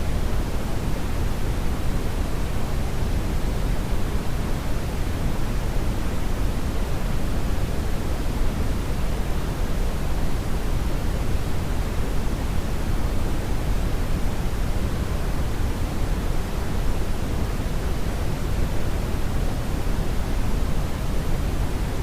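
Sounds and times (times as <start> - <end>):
brown noise rumbling hiss: 0.0 - 22.0.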